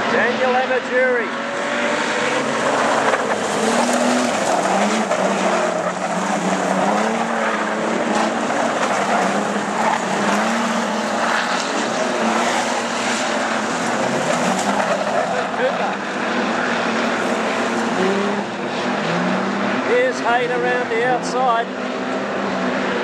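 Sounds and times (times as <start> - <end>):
racing car engines revving: 0.0 - 23.0.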